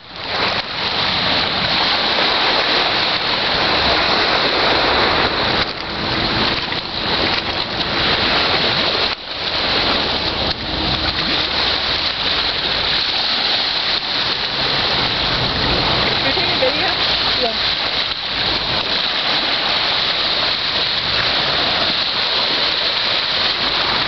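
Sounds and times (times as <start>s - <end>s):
waves washing over pebbles: 0.0s - 24.0s.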